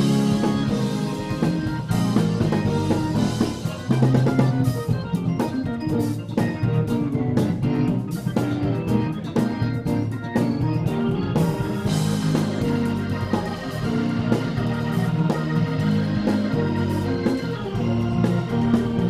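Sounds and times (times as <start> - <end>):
bass guitar: 0.0 - 19.0
drum kit beat: 0.0 - 19.0
electric keyboard: 0.0 - 19.0
organ holding chords: 0.0 - 19.0.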